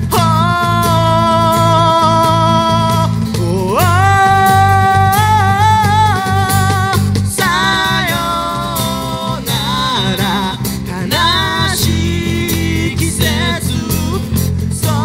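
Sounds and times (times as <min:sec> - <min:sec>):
cajon: 0:00.0 - 0:15.0
electric bass: 0:00.0 - 0:15.0
man singing: 0:00.0 - 0:15.0
strummed acoustic guitars: 0:00.0 - 0:15.0.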